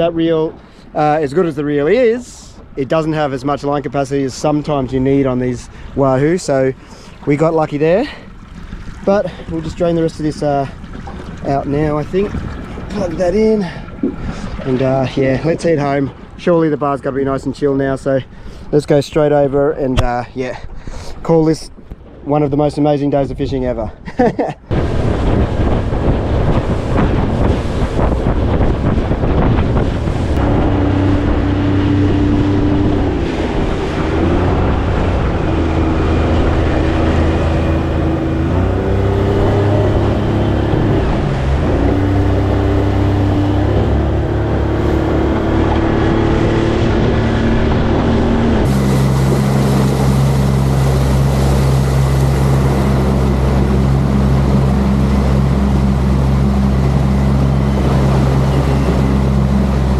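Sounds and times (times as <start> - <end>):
water noise: 0.0 - 59.9
wind: 0.0 - 59.9
outboard motor running: 0.1 - 17.3, 24.7 - 59.9.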